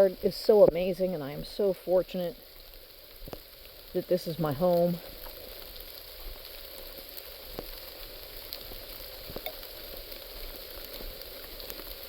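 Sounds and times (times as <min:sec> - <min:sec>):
rain hissing: 0:00.0 - 0:12.0
sharp ticks of raindrops: 0:00.0 - 0:12.0.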